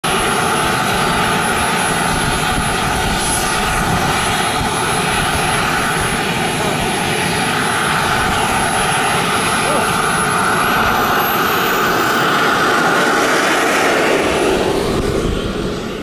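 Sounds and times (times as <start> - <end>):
jet turbine roaring and whining: 0.0 - 16.0
wind buffeting microphone: 0.1 - 16.0.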